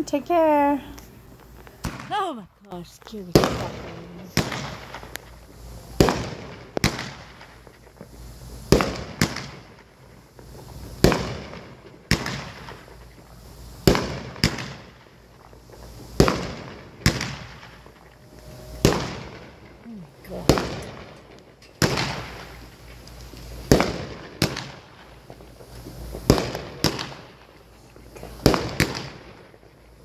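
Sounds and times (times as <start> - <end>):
fireworks bangs echoing: 0.0 - 29.8.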